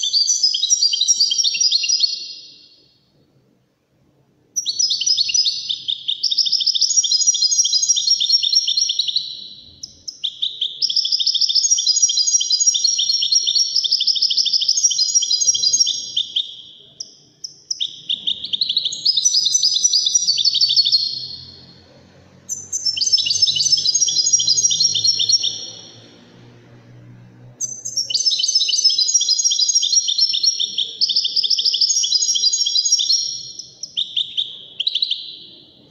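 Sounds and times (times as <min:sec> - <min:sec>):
goldfinch singing: 0:00.0 - 0:02.5, 0:04.6 - 0:21.8, 0:22.5 - 0:26.1, 0:27.6 - 0:35.5.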